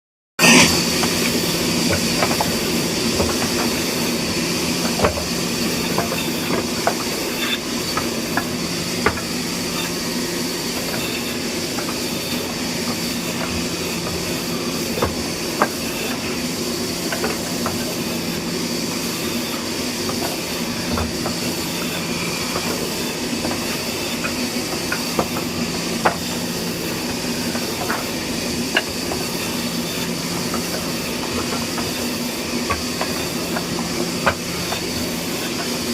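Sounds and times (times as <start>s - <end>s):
woodworking machine humming: 0.4s - 35.9s.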